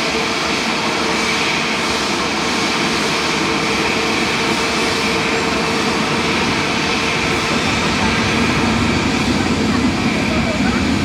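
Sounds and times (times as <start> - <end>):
jet engines running with whine: 0.0 - 11.0.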